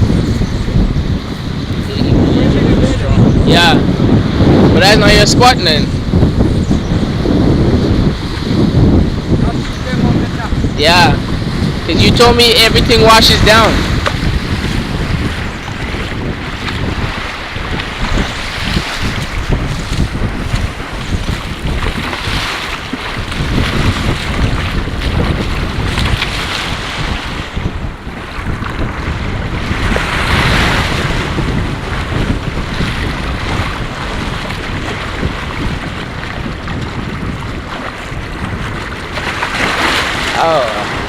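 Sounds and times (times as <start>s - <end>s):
sea waves breaking: 0.0s - 41.0s
wind buffeting microphone: 0.0s - 41.0s.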